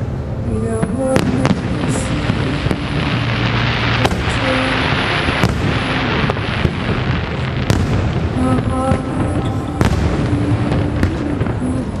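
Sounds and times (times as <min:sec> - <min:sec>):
dense firework crackle: 0:01.2 - 0:12.0.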